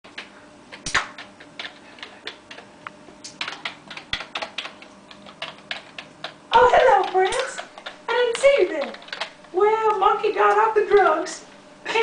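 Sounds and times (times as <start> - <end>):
computer keyboard typing: 0.1 - 11.4.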